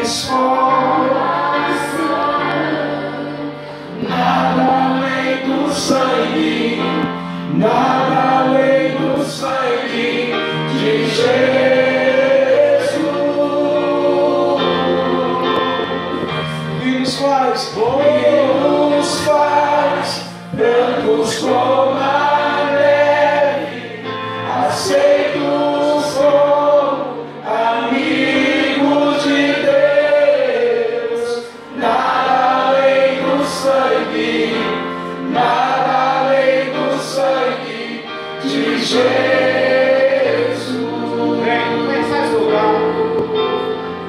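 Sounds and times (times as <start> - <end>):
man and woman singing hymn: 0.0 - 44.0
sustained keyboard notes: 0.0 - 44.0.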